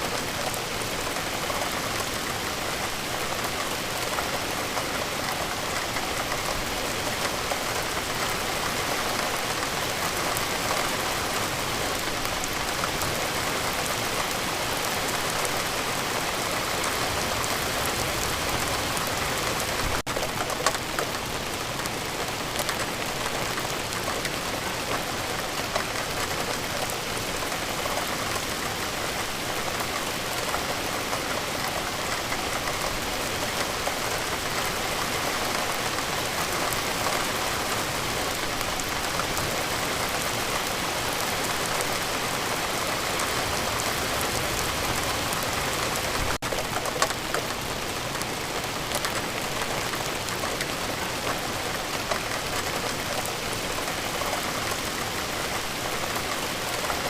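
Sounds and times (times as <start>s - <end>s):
raindrops ticking on a surface: 0.0s - 57.0s.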